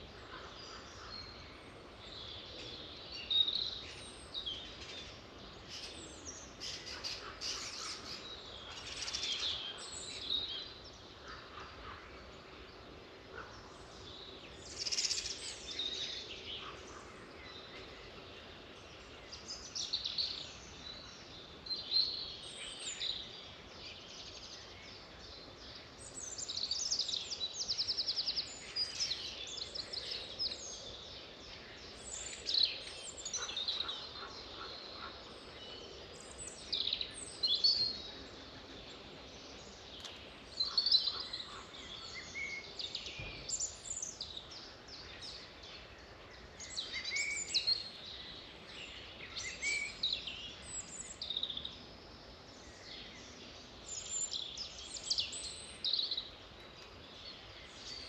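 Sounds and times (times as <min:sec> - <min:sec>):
faint background hiss: 0:00.0 - 0:58.0
birds singing and chirping: 0:00.3 - 0:58.0.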